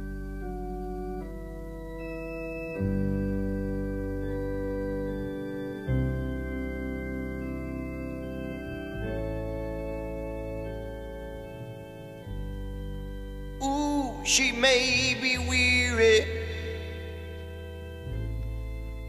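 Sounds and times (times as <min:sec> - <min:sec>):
deep bass notes: 0:00.0 - 0:19.0
organ chords: 0:00.0 - 0:19.0.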